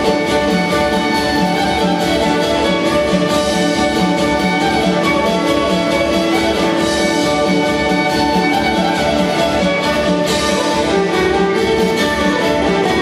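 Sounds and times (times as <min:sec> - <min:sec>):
fiddle melody: 0:00.0 - 0:13.0
strummed acoustic guitars: 0:00.0 - 0:13.0.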